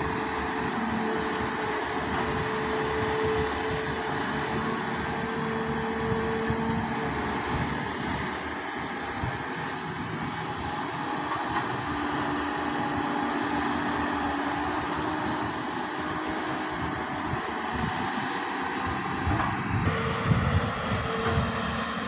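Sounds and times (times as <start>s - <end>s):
excavator engine drone: 0.0s - 22.0s
hydraulic whine: 0.0s - 22.0s.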